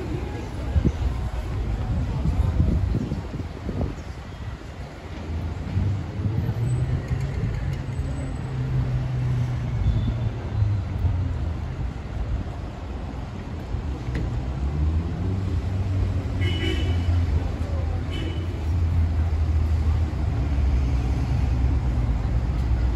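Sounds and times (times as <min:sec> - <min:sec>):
city street traffic: 0:00.0 - 0:22.9.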